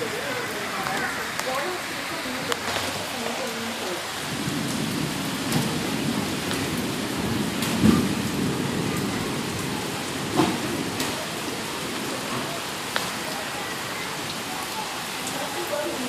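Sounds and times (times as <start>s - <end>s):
heavy rain falling: 0.0s - 16.0s
raindrops tapping a surface: 0.0s - 16.0s.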